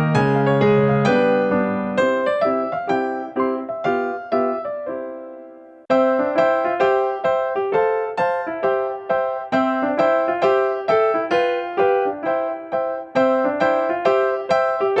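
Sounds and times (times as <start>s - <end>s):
cheerful electric piano tune: 0.0s - 15.0s.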